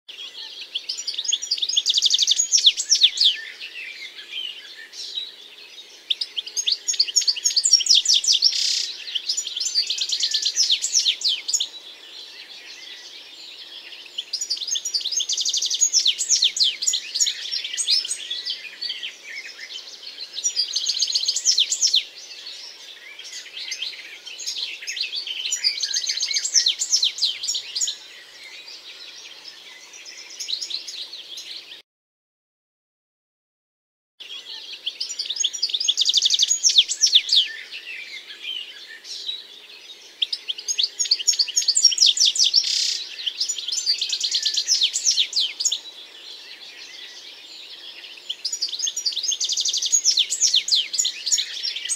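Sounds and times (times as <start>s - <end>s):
robin singing: 0.1s - 31.8s, 34.2s - 51.9s.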